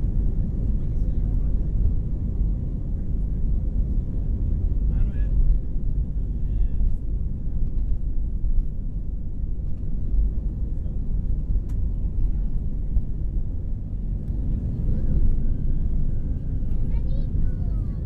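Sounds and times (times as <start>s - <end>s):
jet engines at takeoff thrust: 0.0s - 18.0s
wheels rumbling on runway: 0.0s - 18.0s.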